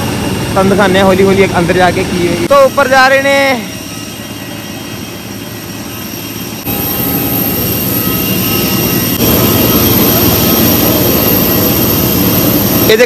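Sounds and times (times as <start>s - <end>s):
jet engine roaring with high whine: 0.0s - 13.0s.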